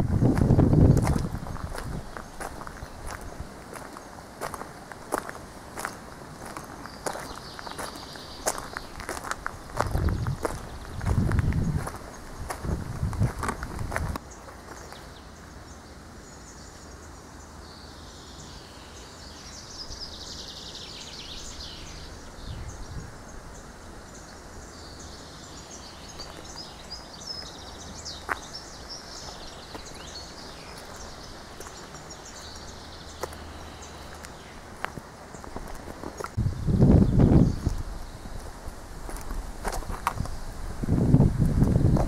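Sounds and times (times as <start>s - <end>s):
small birds chirping: 0.0s - 40.7s
steady low background noise: 0.0s - 42.0s.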